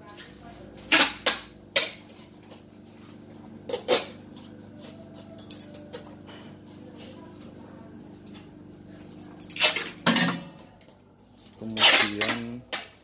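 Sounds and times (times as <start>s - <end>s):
centrifuge electrical hum: 0.0s - 13.0s.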